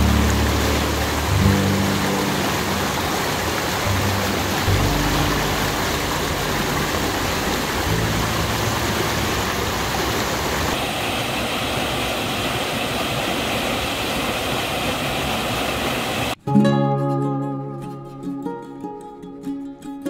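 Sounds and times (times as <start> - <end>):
stream rushing over boulders: 0.0 - 16.4.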